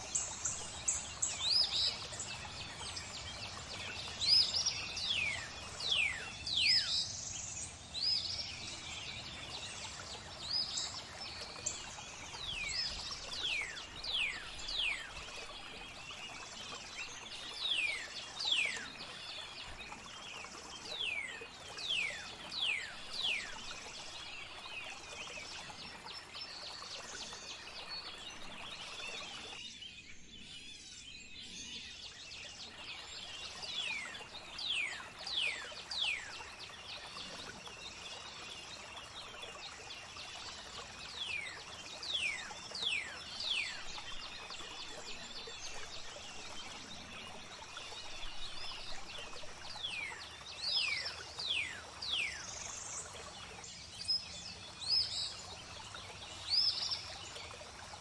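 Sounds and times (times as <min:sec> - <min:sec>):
flowing water: 0:00.0 - 0:29.6, 0:31.4 - 0:58.0.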